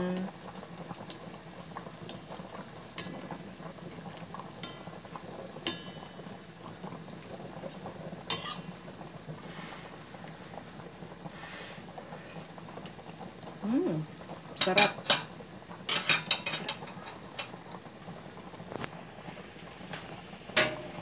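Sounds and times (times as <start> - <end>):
sauce bubbling in a pot: 0.0 - 21.0.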